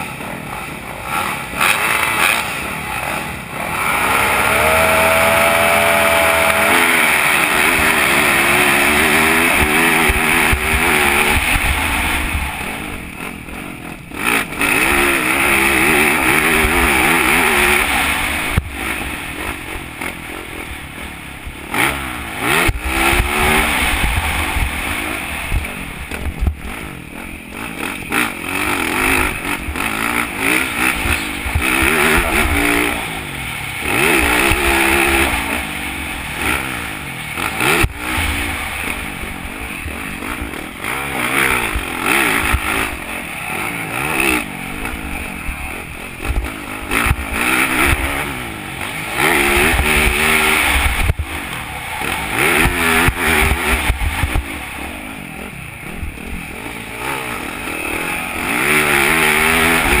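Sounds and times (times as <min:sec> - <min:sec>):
motorbike engine revving: 0:00.0 - 1:00.0.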